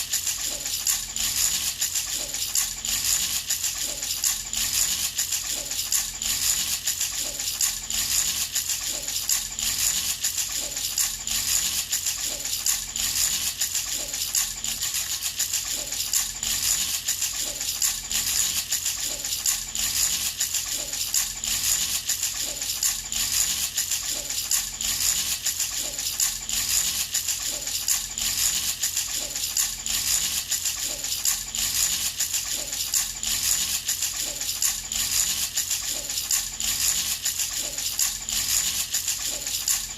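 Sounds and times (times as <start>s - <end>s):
baby's toy rattle shaken: 0.0s - 39.9s.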